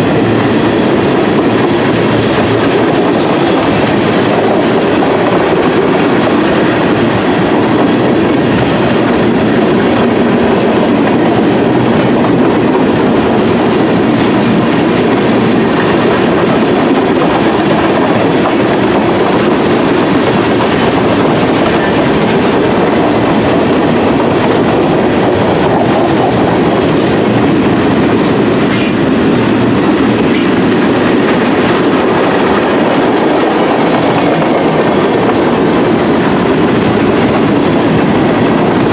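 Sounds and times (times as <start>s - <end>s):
clickety-clack over rail joints: 0.0s - 38.9s
freight train rumbling past: 0.0s - 38.9s.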